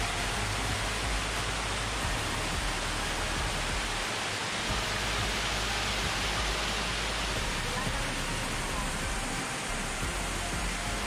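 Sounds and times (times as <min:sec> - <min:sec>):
steady rushing hiss: 0:00.0 - 0:11.0.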